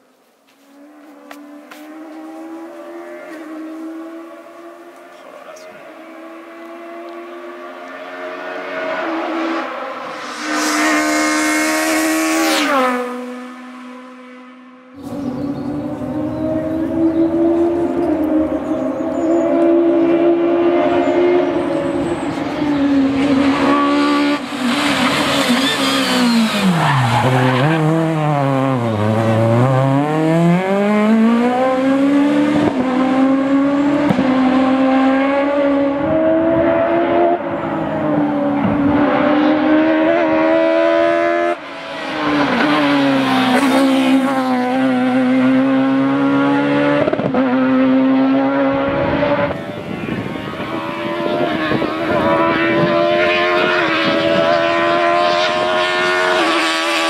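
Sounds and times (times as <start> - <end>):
car engine revving: 0.8 - 57.0.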